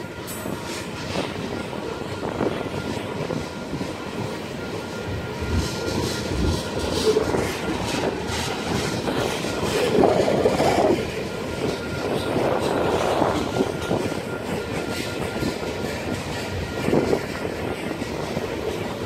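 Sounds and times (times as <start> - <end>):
freight train wheels rumbling and clacking: 0.0 - 19.0.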